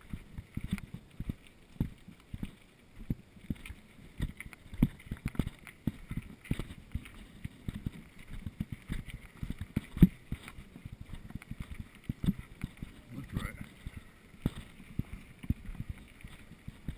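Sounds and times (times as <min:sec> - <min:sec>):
mountain bike rattling over trail: 0:00.0 - 0:16.9.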